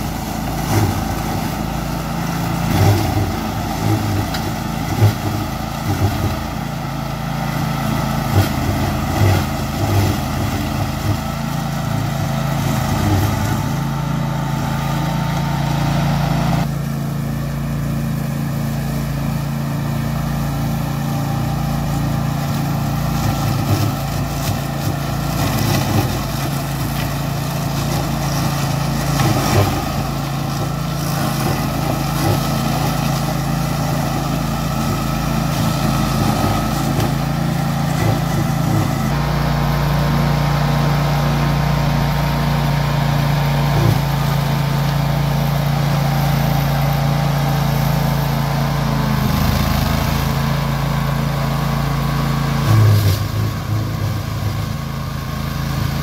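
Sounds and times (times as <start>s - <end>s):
ride-on mower running: 0.0s - 56.0s.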